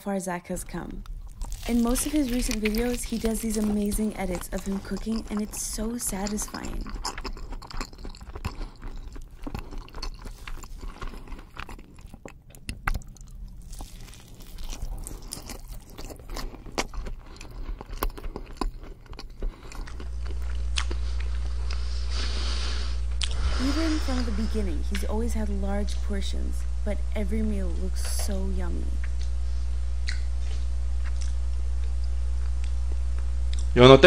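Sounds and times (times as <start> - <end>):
low hum with hiss: 0.0 - 34.0
chewing and crunching food: 0.7 - 25.7, 30.0 - 33.7.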